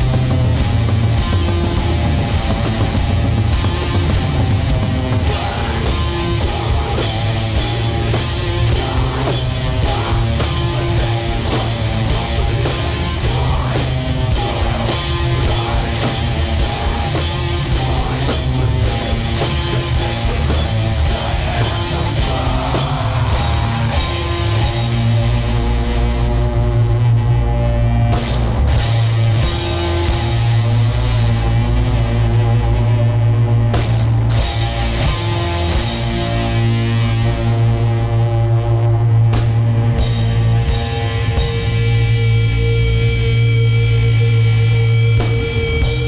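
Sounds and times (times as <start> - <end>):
heavy distorted rock music: 0.0 - 46.0.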